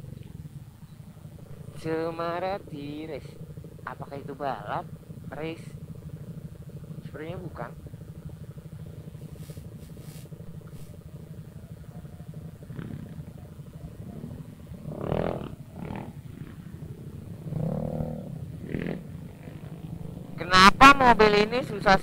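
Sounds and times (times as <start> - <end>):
scooter engine idling and pulling away: 0.0 - 22.0.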